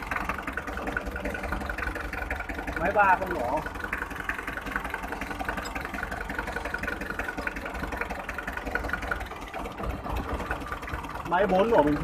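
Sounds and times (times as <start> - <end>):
diesel engine idling rough: 0.0 - 12.0.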